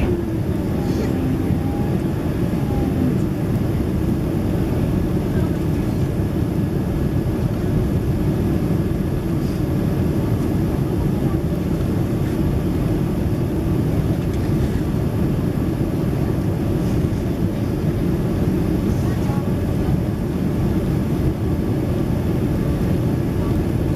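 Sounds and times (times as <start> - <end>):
airliner cabin engine rumble: 0.0 - 23.9.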